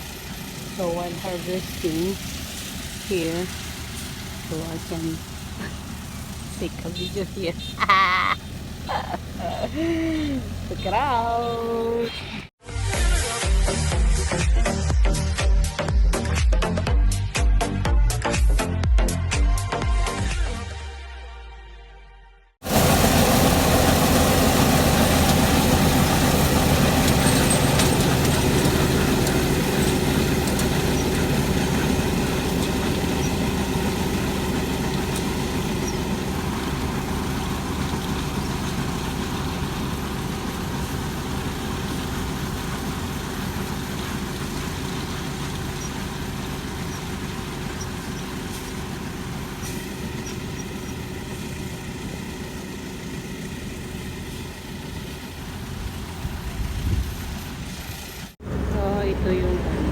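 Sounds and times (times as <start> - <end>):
diesel engine running: 0.0 - 20.2, 22.6 - 59.9.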